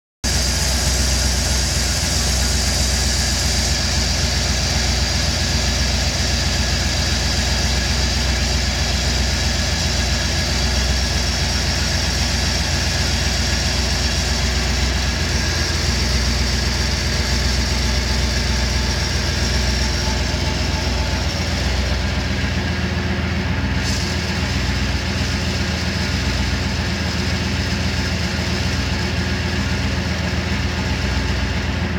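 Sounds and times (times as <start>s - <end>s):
car engine idling: 0.2s - 31.9s.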